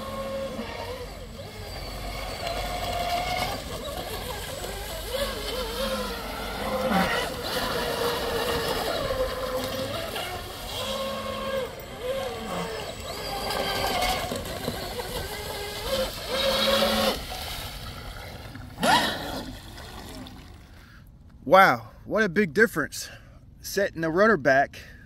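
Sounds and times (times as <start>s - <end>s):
rc boat motor revving: 0.0s - 20.2s.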